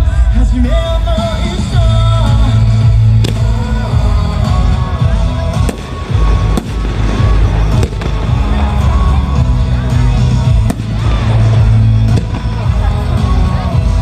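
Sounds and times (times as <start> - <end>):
fireworks bursting with bangs: 0.0 - 14.0
loud music: 0.0 - 14.0.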